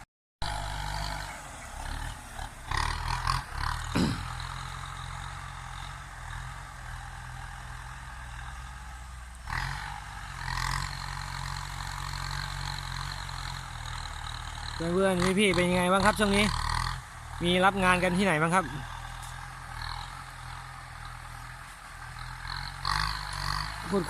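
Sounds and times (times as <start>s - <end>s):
tractor diesel engine running: 0.4s - 24.0s.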